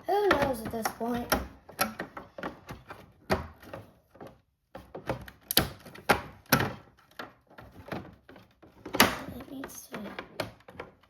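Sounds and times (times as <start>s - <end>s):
plastic toy parts knocking and clicking: 0.0s - 11.0s.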